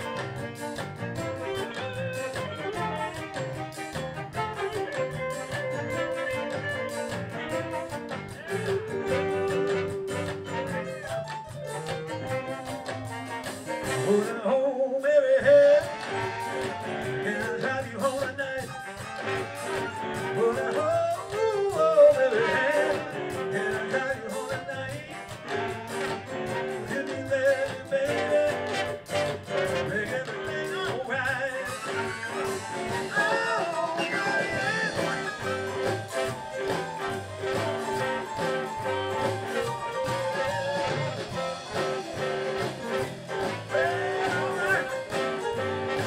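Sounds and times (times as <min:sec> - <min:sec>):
steady drum beat: 0:00.0 - 0:14.4, 0:15.4 - 0:46.0
live band playing blues rock: 0:00.0 - 0:46.0.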